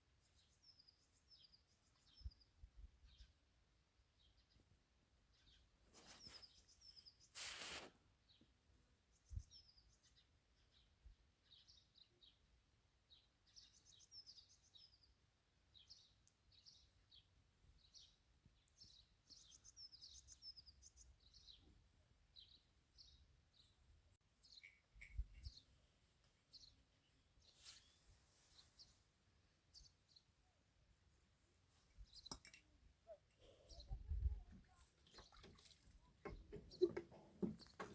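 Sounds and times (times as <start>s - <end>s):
small birds chirping: 0.1s - 3.5s, 4.2s - 37.9s.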